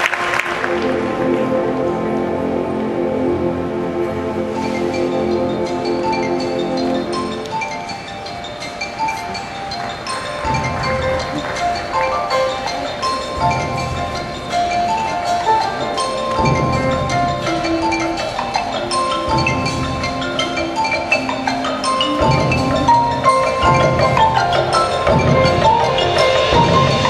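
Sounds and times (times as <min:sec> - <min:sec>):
mallet percussion melody: 0:00.0 - 0:27.0.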